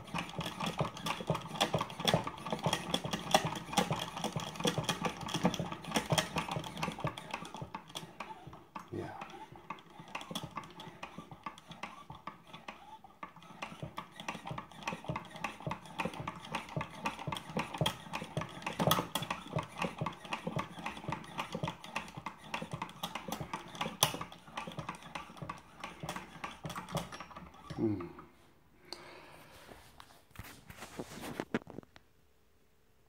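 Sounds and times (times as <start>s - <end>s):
model steam engine clattering: 0.0s - 27.8s.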